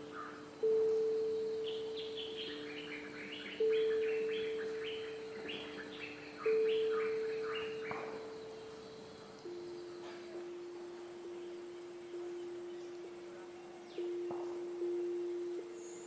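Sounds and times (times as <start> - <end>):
low ringing tones: 0.0 - 16.0
songbird singing: 0.0 - 16.0.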